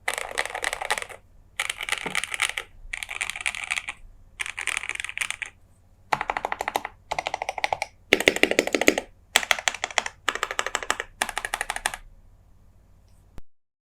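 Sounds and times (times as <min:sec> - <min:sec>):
typing on mechanical keyboard: 0:00.0 - 0:12.1.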